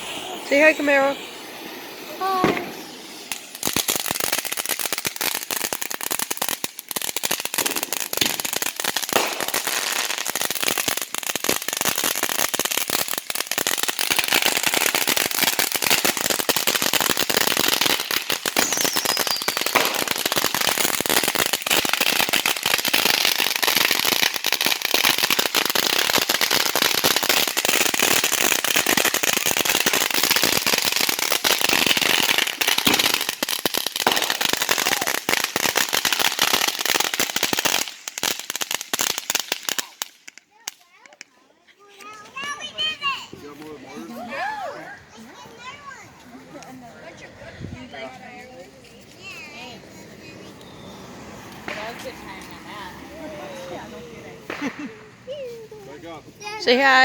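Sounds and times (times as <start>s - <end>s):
fireworks crackling: 0.0s - 57.0s.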